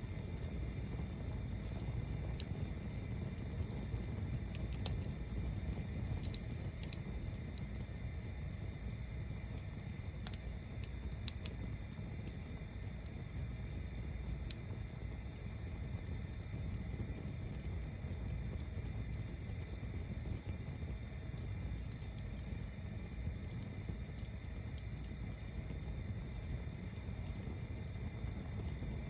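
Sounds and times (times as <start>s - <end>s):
bonfire crackling and rumbling: 0.0s - 29.0s.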